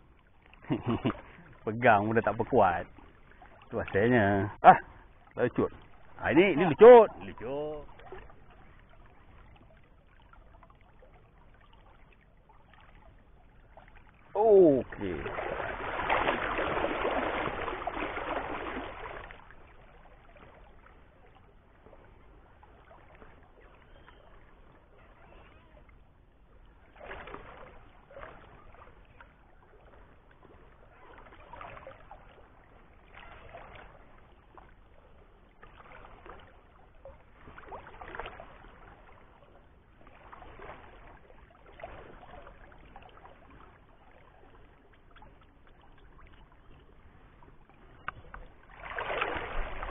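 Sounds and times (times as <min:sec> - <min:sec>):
water lapping around boat: 0:00.0 - 0:49.9.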